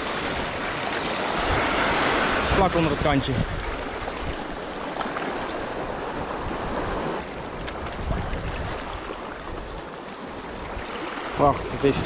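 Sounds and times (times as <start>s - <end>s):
wind buffeting microphone: 0.0s - 4.8s, 5.4s - 12.0s
surf washing against rocks: 0.0s - 12.0s.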